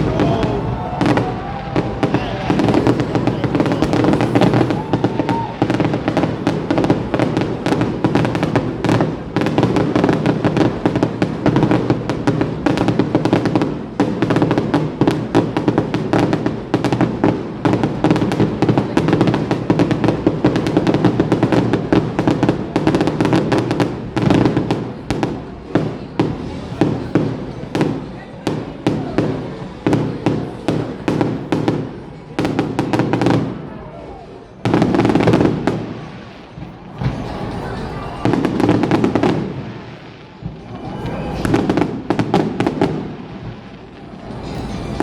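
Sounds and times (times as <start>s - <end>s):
fireworks crackling and popping: 0.0s - 45.0s.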